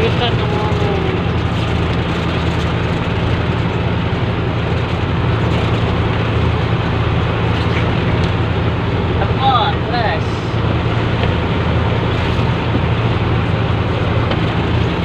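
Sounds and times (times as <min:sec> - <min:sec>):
boat engine humming: 0:00.0 - 0:15.0
water rushing: 0:00.0 - 0:15.0
wind: 0:00.0 - 0:15.0.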